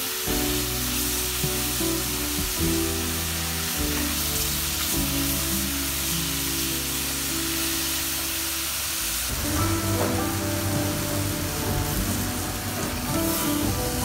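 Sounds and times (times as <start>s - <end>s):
background music of held notes: 0.0s - 14.0s
mushrooms sizzling in a pot: 0.0s - 14.0s.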